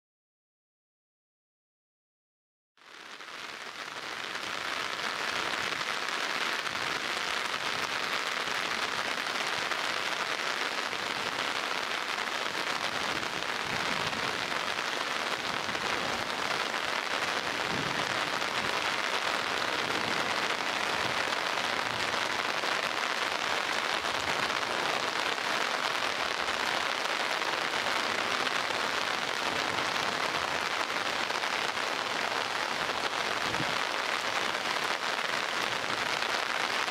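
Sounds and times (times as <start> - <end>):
heavy rain downpour: 2.8 - 36.9.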